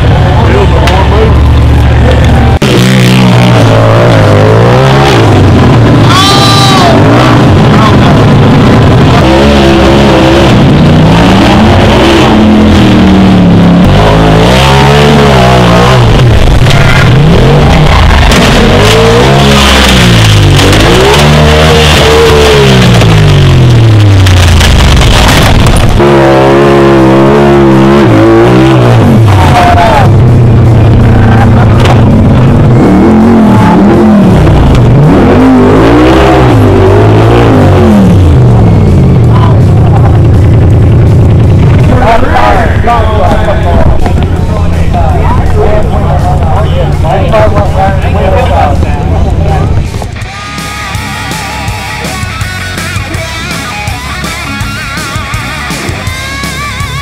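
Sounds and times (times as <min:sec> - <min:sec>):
engine revving hard: 0:00.0 - 0:57.0.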